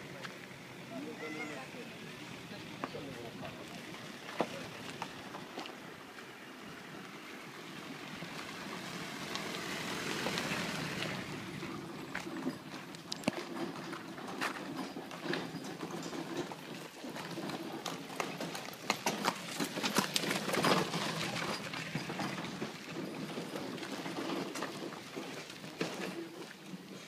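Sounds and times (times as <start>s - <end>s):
hooves clip-clopping on dirt: 2.6s - 7.2s, 7.8s - 27.0s.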